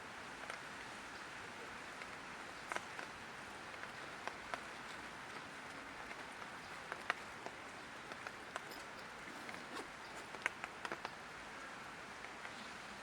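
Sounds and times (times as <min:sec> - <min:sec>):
light rain hiss: 0:00.0 - 0:13.0
raindrops ticking on surfaces: 0:00.0 - 0:13.0.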